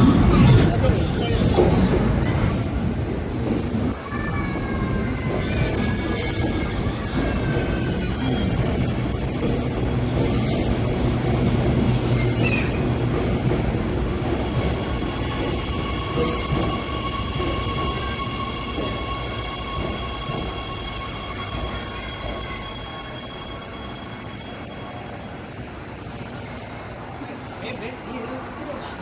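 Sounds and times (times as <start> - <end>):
high whine of train: 0.0 - 29.0
wheel and rail rumble: 0.0 - 29.0.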